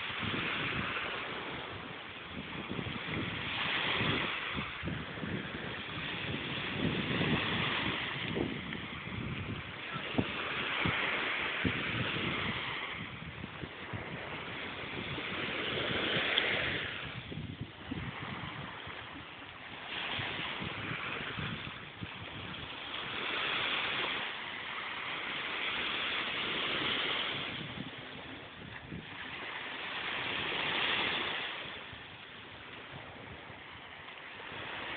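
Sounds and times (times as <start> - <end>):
small waves breaking on sand: 0.0 - 34.9
wind buffeting microphone: 0.0 - 34.9.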